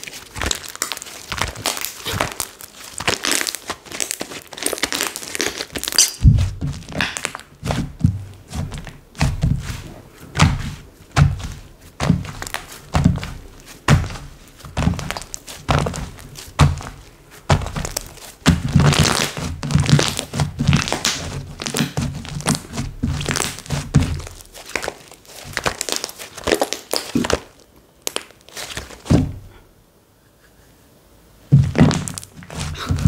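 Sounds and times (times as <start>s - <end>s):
slime squished by hand: 0.0s - 29.3s.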